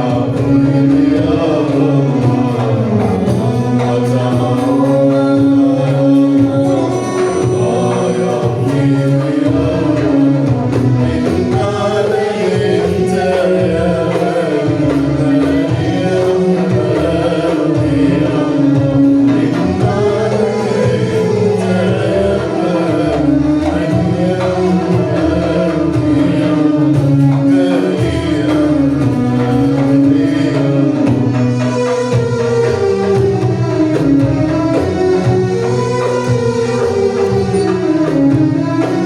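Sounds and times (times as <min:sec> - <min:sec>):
hand drum percussion: 0:00.0 - 0:39.0
man singing long held notes: 0:00.0 - 0:39.0.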